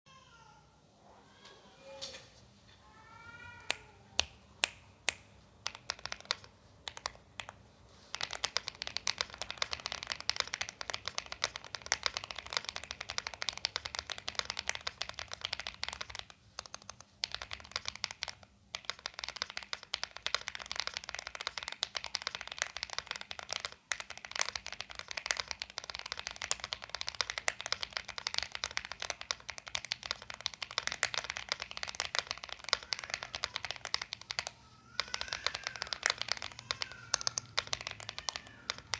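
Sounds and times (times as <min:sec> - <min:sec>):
typing on mechanical keyboard: 0:05.6 - 0:38.9.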